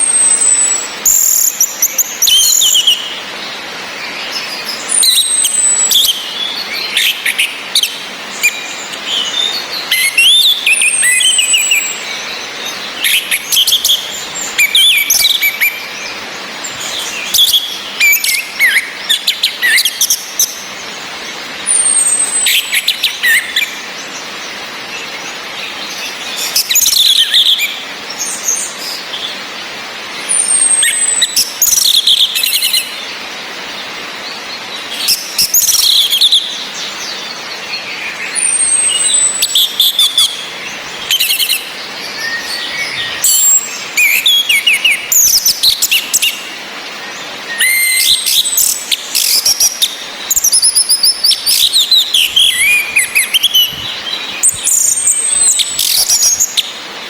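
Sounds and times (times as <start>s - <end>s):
rain hissing: 0.0s - 57.0s
thrushes singing and calling: 0.0s - 57.0s.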